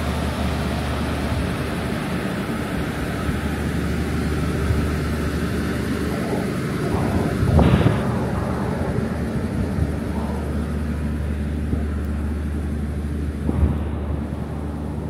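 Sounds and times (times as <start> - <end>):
train mechanical rumble: 0.0 - 15.0.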